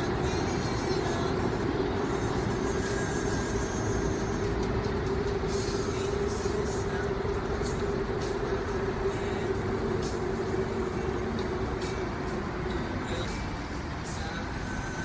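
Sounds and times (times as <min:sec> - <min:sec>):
constant hum: 0:00.0 - 0:15.0
train running across bridge: 0:00.0 - 0:15.0.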